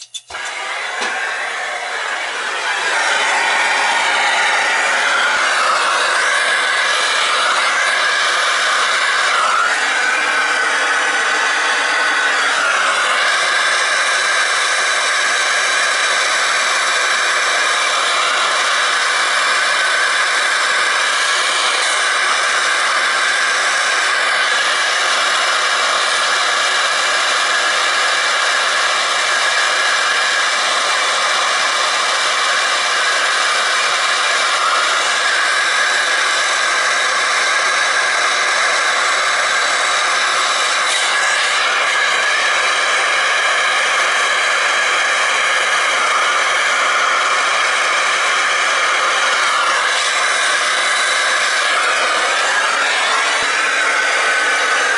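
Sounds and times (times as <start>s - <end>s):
gas torch flame hissing: 0.0s - 29.0s, 33.0s - 54.9s.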